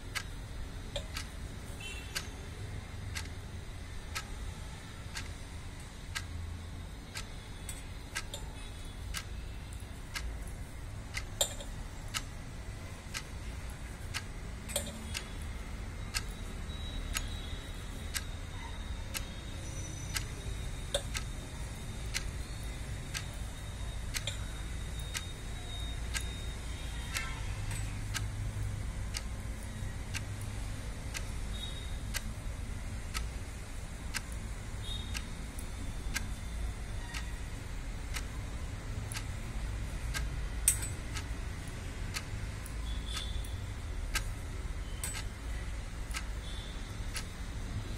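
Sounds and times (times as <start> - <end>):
regular ticking: 0.0 - 47.9.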